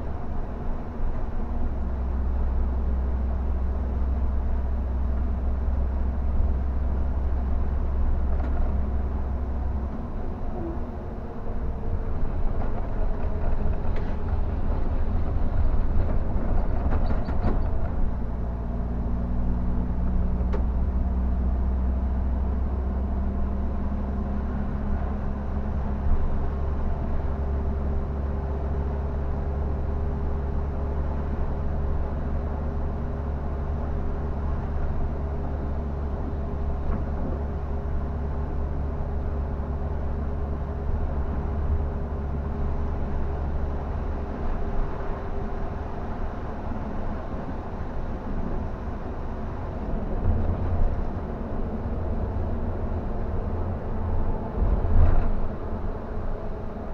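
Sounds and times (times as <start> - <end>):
bus engine droning: 0.0 - 56.9.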